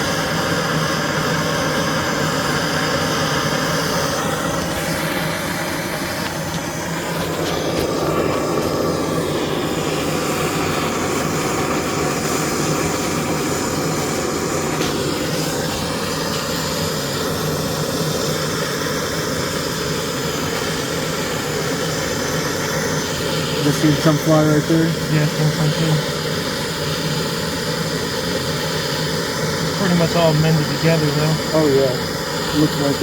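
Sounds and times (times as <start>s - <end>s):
gas torch flame rushing: 0.0s - 33.0s.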